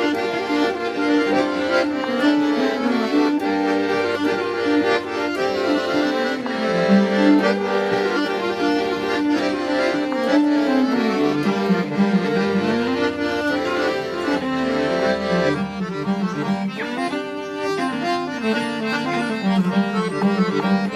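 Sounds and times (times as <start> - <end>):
instrumental folk tune: 0.0 - 20.9.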